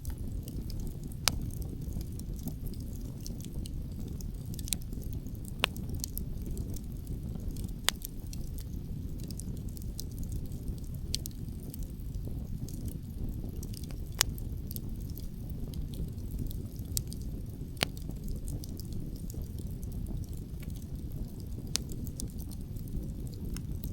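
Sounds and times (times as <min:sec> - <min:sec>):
campfire crackling and popping: 0:00.0 - 0:23.9.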